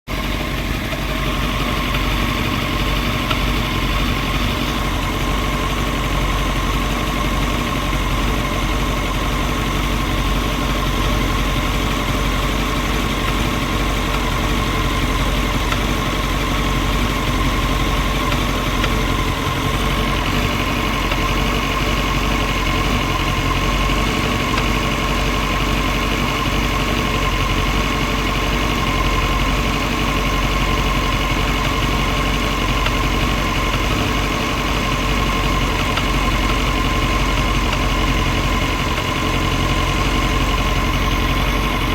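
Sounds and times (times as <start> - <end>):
motorcycle engine idling: 0.1 - 41.9.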